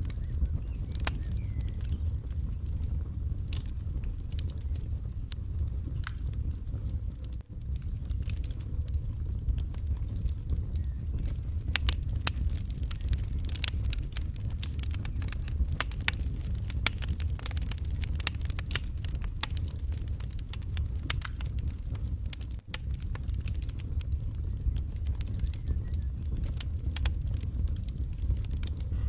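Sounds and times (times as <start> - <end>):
fire crackling in a fireplace: 0.0 - 29.0.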